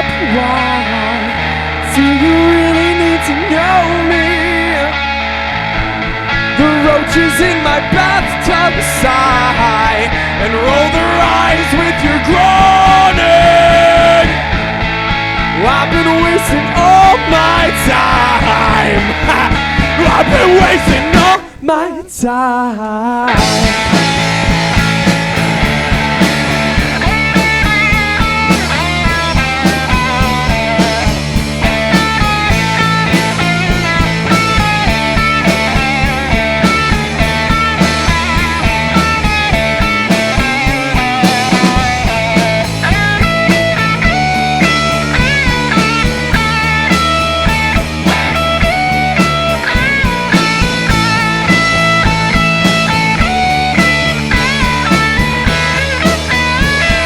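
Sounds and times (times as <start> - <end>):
steady drum beat: 0.0 - 21.9, 23.3 - 57.0
pop-punk band playing: 0.0 - 57.0.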